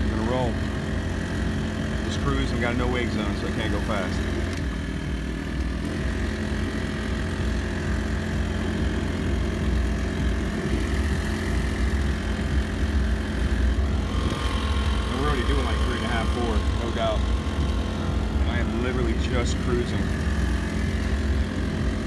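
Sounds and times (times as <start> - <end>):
outboard engine running: 0.0 - 22.0.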